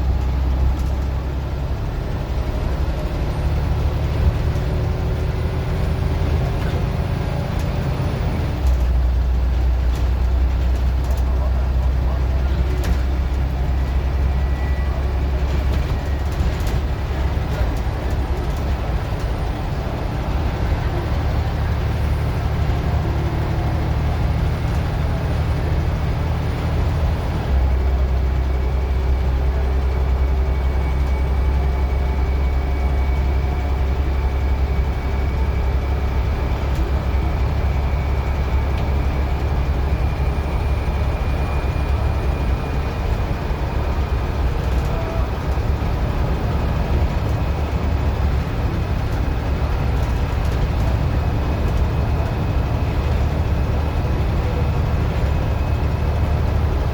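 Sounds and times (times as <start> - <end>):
bus engine droning: 0.0 - 56.9.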